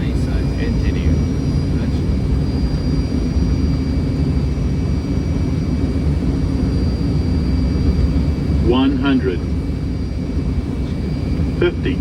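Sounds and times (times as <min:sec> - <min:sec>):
airflow and jet engine rumble: 0:00.0 - 0:12.0
faint high-pitched whines: 0:00.0 - 0:12.0.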